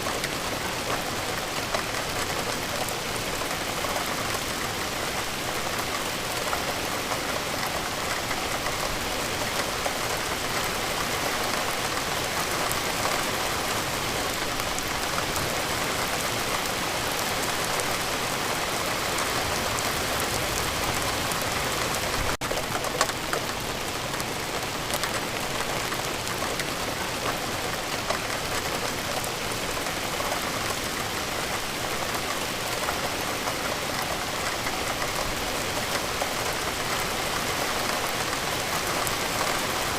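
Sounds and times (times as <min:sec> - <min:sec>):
raindrops ticking on surface: 0:00.0 - 0:39.9
steady rain hiss: 0:00.0 - 0:39.9.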